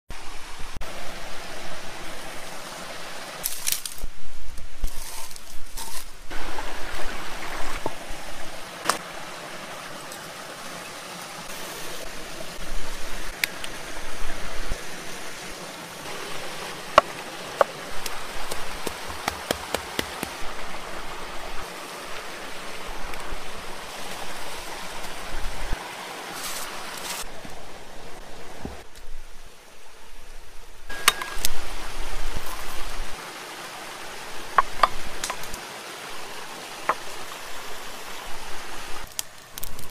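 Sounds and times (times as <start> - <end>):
stream and waterfall rushing: 0.1 - 4.0, 6.3 - 39.6.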